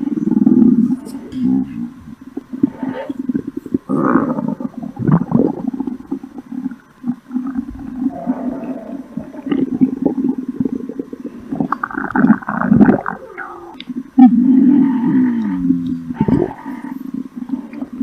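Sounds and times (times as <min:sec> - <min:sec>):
stomach grumbling and gurgling: 0:00.0 - 0:18.0.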